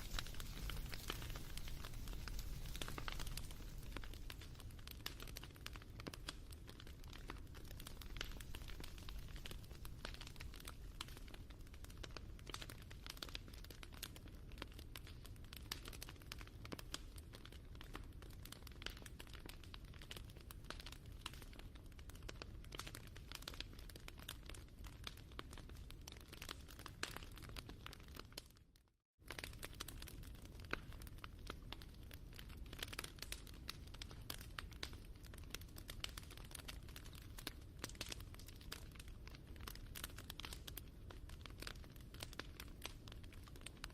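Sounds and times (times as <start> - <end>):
campfire crackling: 0.0 - 28.4, 29.3 - 43.9.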